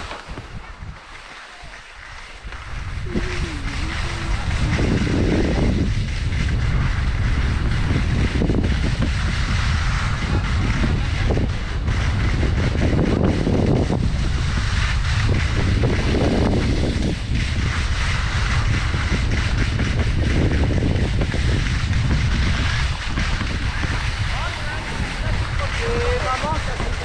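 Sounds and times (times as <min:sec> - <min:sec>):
skis scraping over snow: 0:00.0 - 0:27.0
wind noise on microphone: 0:00.0 - 0:27.0.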